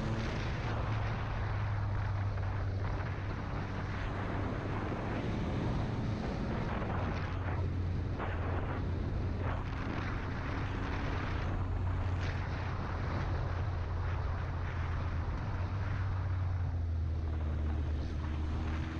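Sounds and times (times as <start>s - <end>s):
vehicle engine running: 0.0s - 18.9s
wind noise: 0.0s - 18.9s.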